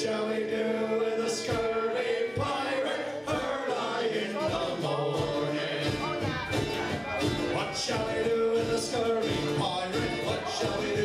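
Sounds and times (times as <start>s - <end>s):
acoustic guitar: 0.0s - 11.0s
mandolin: 0.0s - 11.0s
voices singing together: 0.0s - 11.0s
drum: 1.3s - 3.7s, 4.4s - 11.0s.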